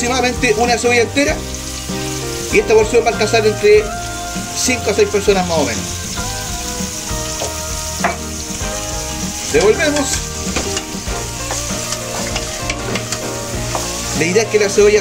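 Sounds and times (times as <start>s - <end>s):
onion sizzling in oil: 0.0s - 15.0s
wooden spoon stirring: 1.2s - 15.0s.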